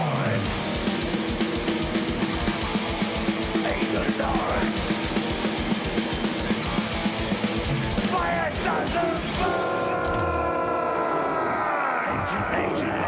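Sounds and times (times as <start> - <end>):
thrash metal band playing: 0.0 - 10.9.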